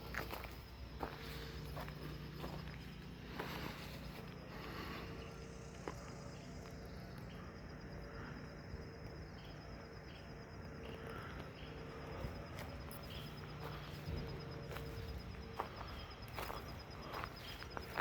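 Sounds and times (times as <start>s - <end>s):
insects trilling: 0.0s - 18.0s
low outdoor background noise: 0.0s - 18.0s.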